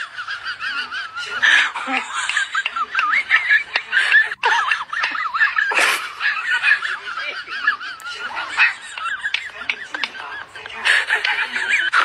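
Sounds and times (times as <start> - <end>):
high-pitched laughing and giggling: 0.0 - 12.0.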